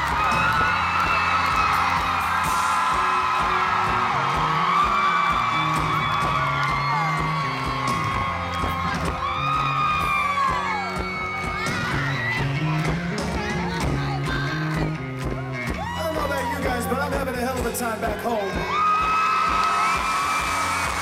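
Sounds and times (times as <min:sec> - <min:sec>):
audience whooping and screaming: 0:00.0 - 0:13.6, 0:14.6 - 0:17.1, 0:18.2 - 0:21.0
bass guitar line: 0:00.0 - 0:21.0
live rock band playing: 0:00.0 - 0:21.0.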